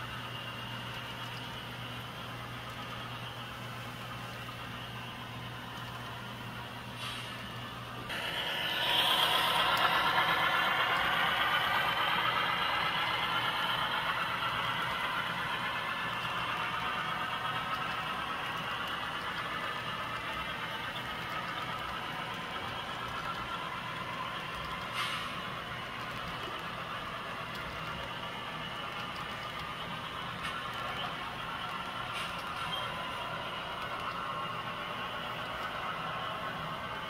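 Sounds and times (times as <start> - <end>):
model train running on track: 0.0 - 37.0.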